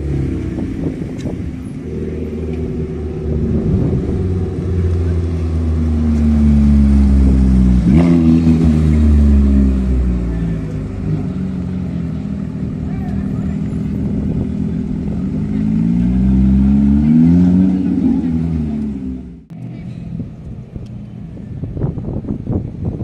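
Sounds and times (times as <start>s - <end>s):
car engine passing by: 0.0s - 20.6s.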